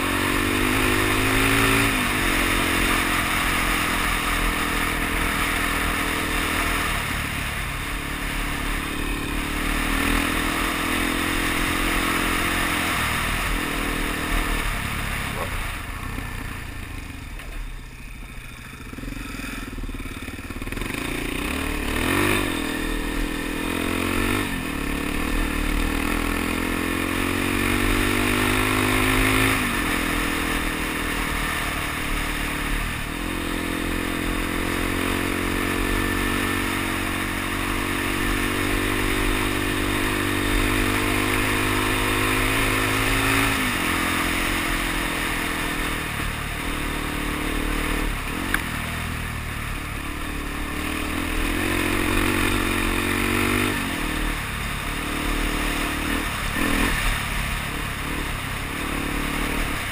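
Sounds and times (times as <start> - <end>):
motorcycle engine shifting gears: 0.0 - 59.9.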